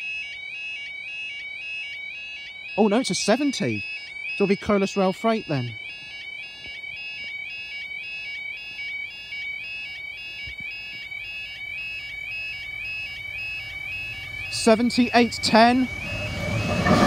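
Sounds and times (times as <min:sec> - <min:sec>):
level crossing alarm warbling: 0:00.0 - 0:17.0.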